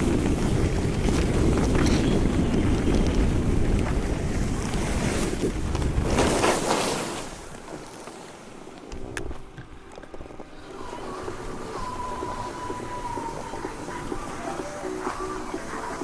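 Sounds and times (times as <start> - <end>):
wind on microphone: 0.0 - 7.6, 8.9 - 16.0
skis scraping over snow: 0.0 - 16.0.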